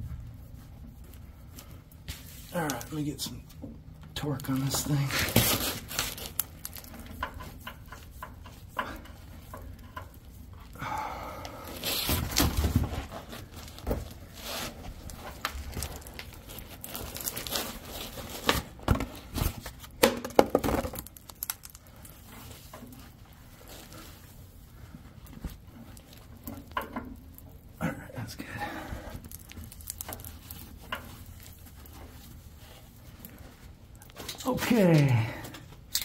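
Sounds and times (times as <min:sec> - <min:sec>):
rustling and scraping: 0:00.0 - 0:10.8, 0:11.5 - 0:20.0, 0:20.7 - 0:35.9.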